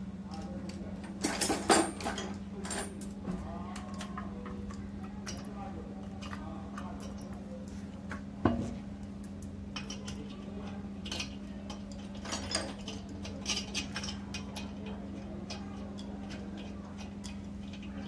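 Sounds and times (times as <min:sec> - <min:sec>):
light metallic clinks: 0:00.3 - 0:18.0.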